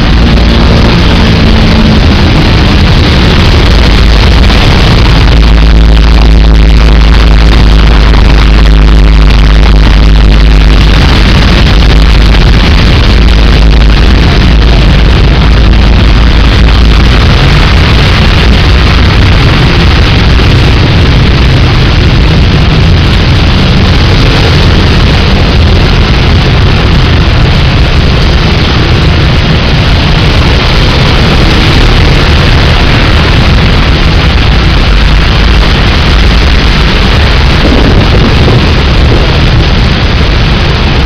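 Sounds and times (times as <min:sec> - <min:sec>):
heavy rain pouring: 0:00.0 - 0:41.0
vehicles passing on wet road: 0:00.0 - 0:41.0.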